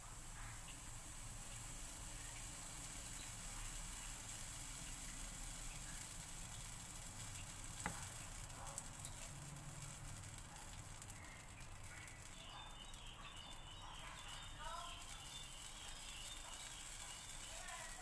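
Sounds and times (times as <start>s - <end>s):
batter sizzling in frying pan: 0.0s - 18.0s.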